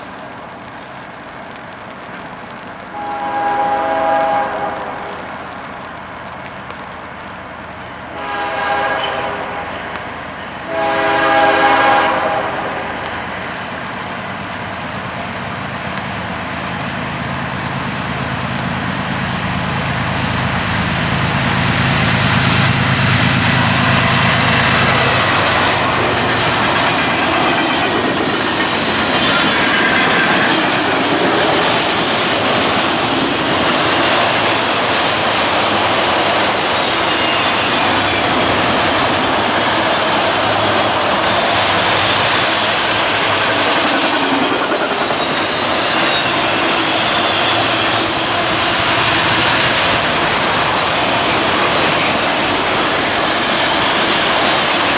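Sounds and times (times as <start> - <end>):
wheel-on-rail noise: 0.0 - 54.9
locomotive engine: 3.8 - 54.9.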